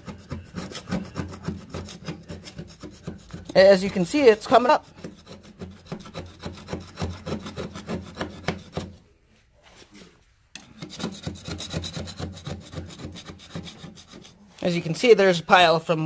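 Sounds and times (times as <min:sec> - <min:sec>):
metal knife scraping tar paper: 0:00.0 - 0:08.9, 0:09.7 - 0:14.8.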